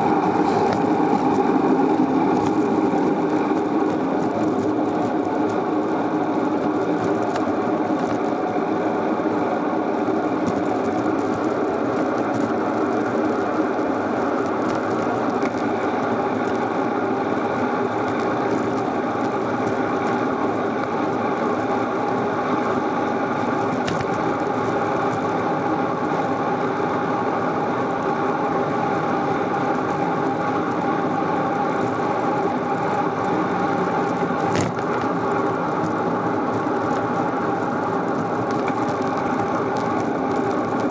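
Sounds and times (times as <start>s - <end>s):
bicycle whirring and rattling: 0.0s - 40.9s.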